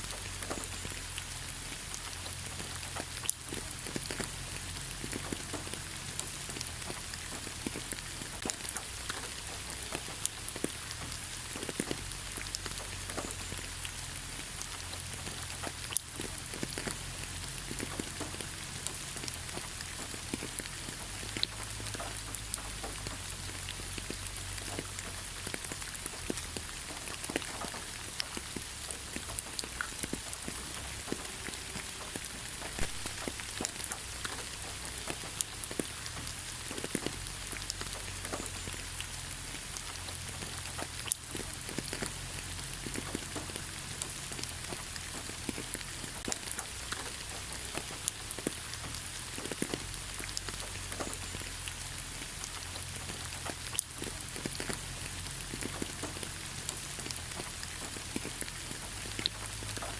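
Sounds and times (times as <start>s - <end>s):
rain hiss: 0.0s - 59.9s
raindrops pattering close: 0.0s - 59.9s.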